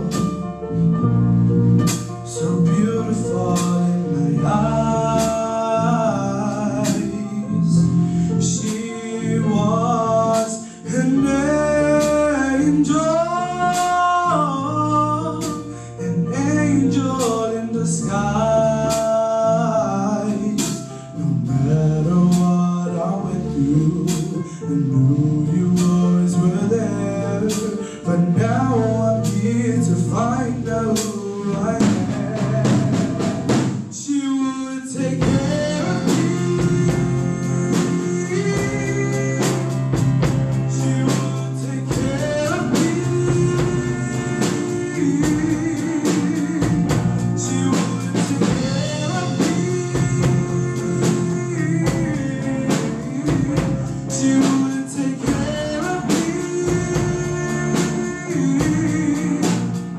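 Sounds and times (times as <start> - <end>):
bass guitar: 0.0 - 59.9
drum kit: 0.0 - 59.9
male lead vocal: 2.0 - 59.9.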